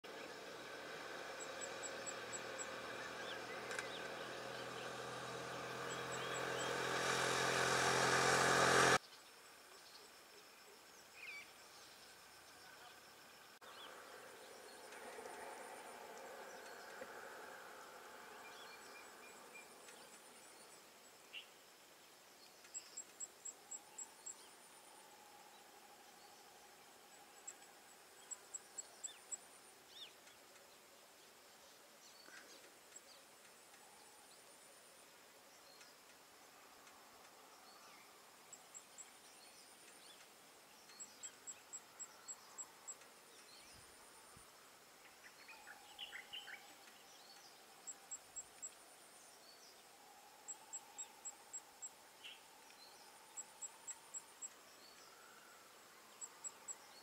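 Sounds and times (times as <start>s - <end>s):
faint high buzz: 0.1s - 57.0s
insects chirping: 0.1s - 57.0s
faint bird chirps: 9.0s - 57.0s.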